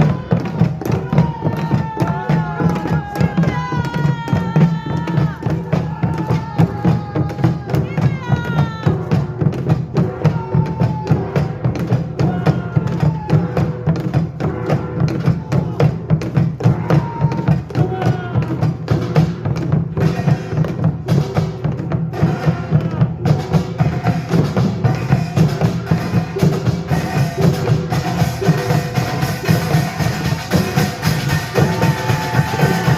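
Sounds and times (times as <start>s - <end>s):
percussion ensemble drumming: 0.0s - 32.9s.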